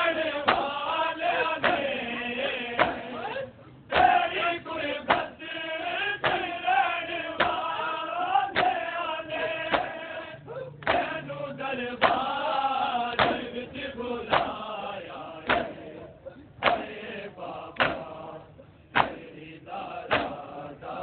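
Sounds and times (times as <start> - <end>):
men chanting in unison: 0.0 - 21.0
rhythmic chest-beating: 0.0 - 21.0.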